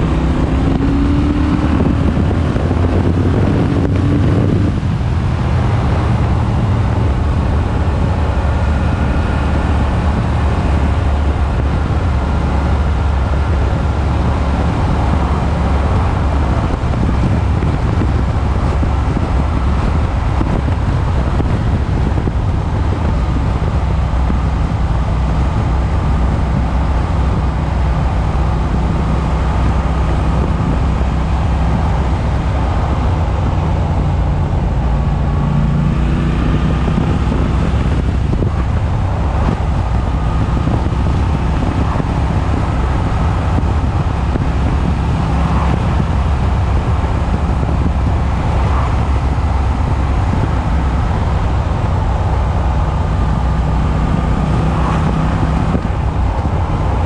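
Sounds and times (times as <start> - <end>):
motorcycle engine cruising: 0.0 - 57.0
wind noise on microphone: 0.0 - 57.0.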